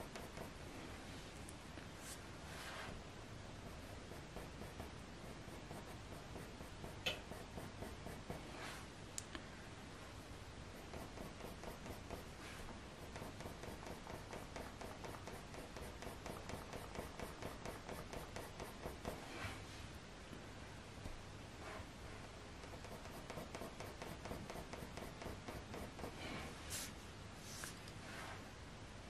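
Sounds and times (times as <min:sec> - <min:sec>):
pencil strokes on paper: 0:00.0 - 0:01.4, 0:02.0 - 0:08.9, 0:10.7 - 0:19.8, 0:21.6 - 0:28.5.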